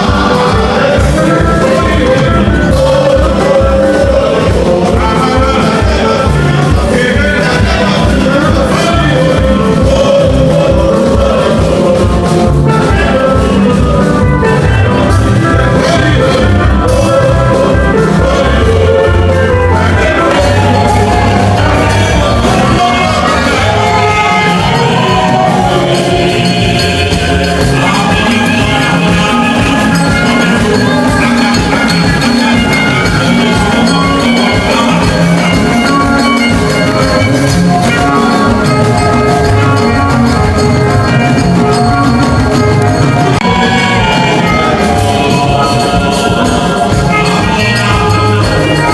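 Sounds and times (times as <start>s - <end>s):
upbeat music with drum beat: 0.0s - 48.9s.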